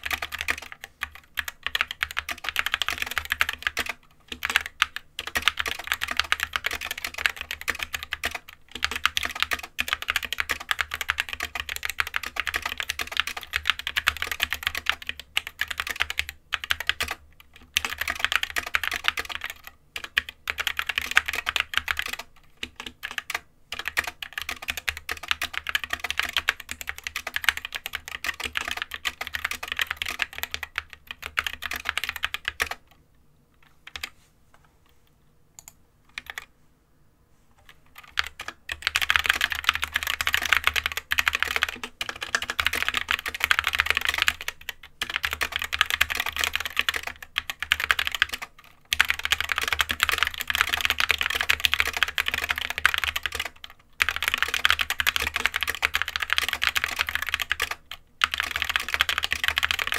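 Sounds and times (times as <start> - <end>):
fast keyboard typing: 0.0 - 33.0, 35.6 - 36.5, 37.6 - 59.9.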